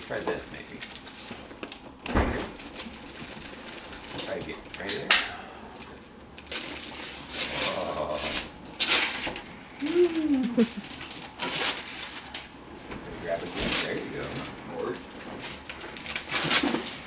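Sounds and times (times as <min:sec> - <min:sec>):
wrapping paper tearing: 0:00.0 - 0:01.8, 0:02.4 - 0:04.5, 0:06.4 - 0:12.5, 0:13.2 - 0:17.0.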